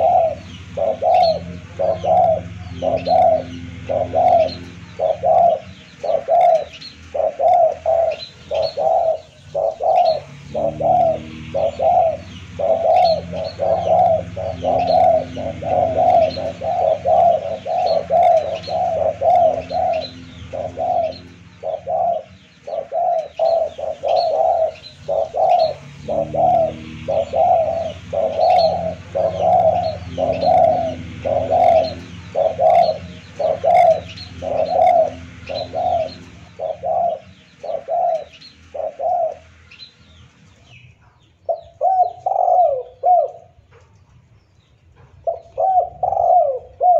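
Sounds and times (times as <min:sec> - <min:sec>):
dove cooing: 0:00.0 - 0:39.7, 0:41.4 - 0:43.7, 0:45.1 - 0:46.9.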